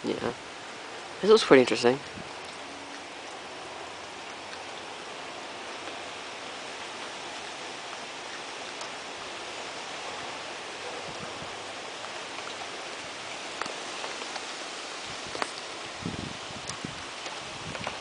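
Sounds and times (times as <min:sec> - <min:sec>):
sharp close raindrops: 0:00.0 - 0:18.0
steady rain: 0:00.0 - 0:18.0.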